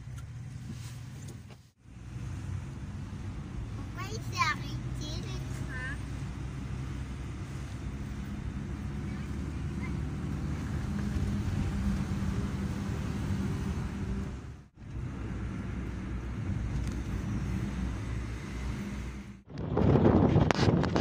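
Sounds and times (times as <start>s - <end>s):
faint engine hum: 0.0s - 20.0s
vehicle rumble: 0.0s - 21.0s.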